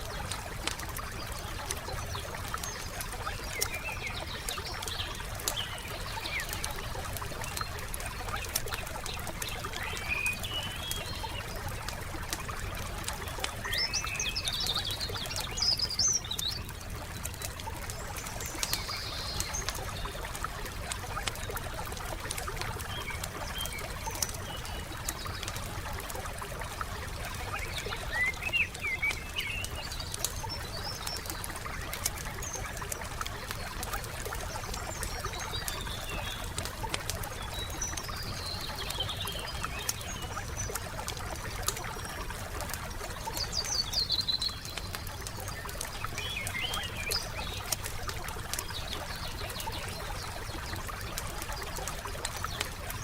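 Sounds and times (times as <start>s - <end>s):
songbirds chirping: 0.0s - 53.0s
wood fire crackling: 0.0s - 53.0s.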